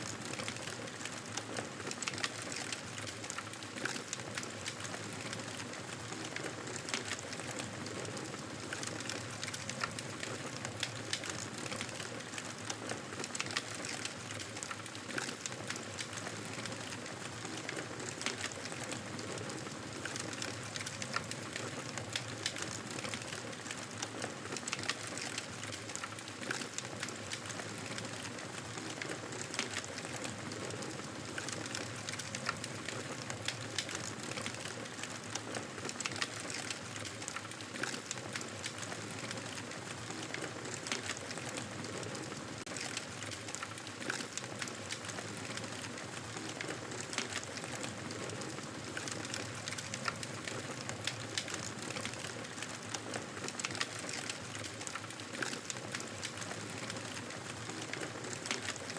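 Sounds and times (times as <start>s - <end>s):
burning wood crackling and popping: 0.1s - 58.9s.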